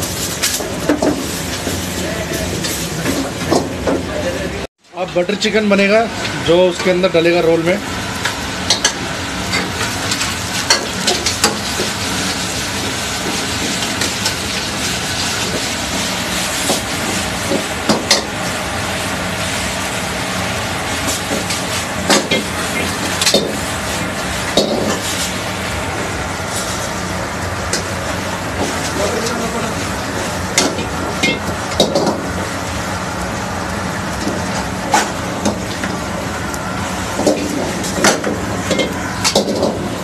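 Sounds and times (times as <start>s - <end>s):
gravy sizzling in a pan: 0.0s - 3.4s, 7.8s - 40.0s
gas flame rushing: 7.7s - 40.0s.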